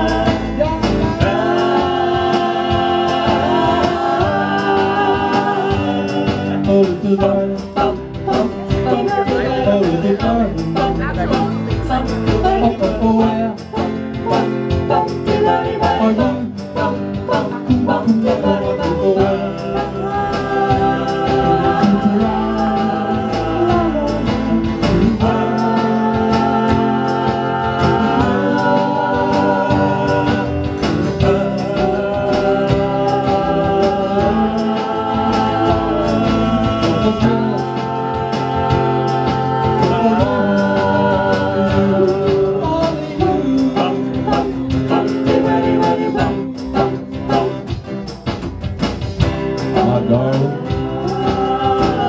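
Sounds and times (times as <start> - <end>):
voices singing in harmony: 0.0 - 48.4, 49.2 - 52.0
guitars and bass: 0.0 - 52.0.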